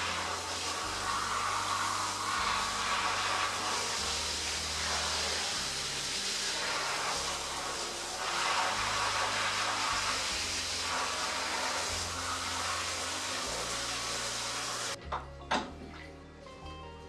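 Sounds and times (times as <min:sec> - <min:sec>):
shower spray on fire pit: 0:00.0 - 0:15.0
background music with bass: 0:00.0 - 0:17.0.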